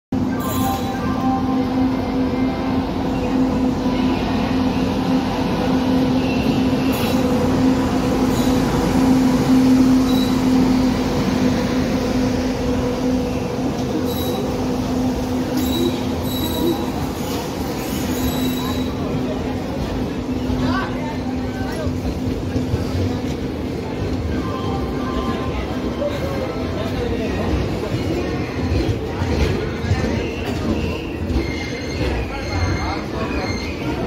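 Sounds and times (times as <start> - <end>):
electric locomotive hum: 0.2 - 34.0
train wheels rumbling: 0.2 - 34.0.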